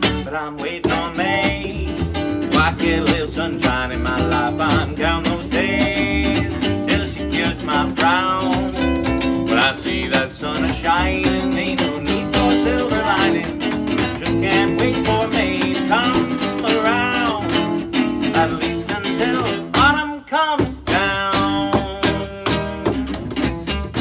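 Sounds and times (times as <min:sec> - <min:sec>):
sliding melody line: 0:00.0 - 0:20.0
strummed acoustic guitar: 0:00.0 - 0:24.0.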